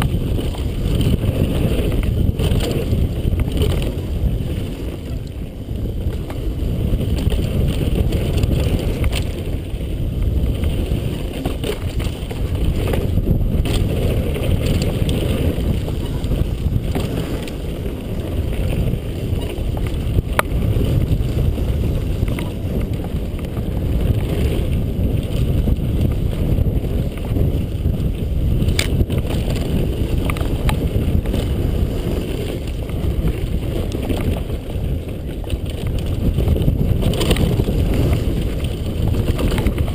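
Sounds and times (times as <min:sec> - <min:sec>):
bike rattling clicks and knocks: 0:00.0 - 0:39.9
wind buffeting microphone: 0:00.0 - 0:39.9.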